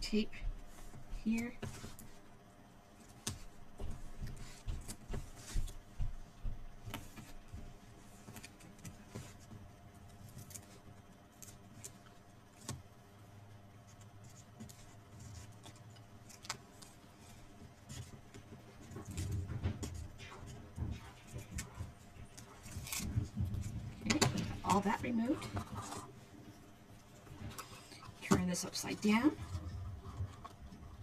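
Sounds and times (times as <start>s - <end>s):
cardstock and tape rustling: 3.0s - 12.9s, 13.8s - 31.0s.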